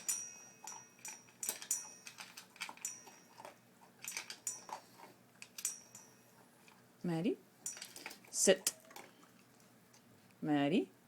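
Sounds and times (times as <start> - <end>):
dog chewing food: 0.0 - 7.0, 7.8 - 10.2.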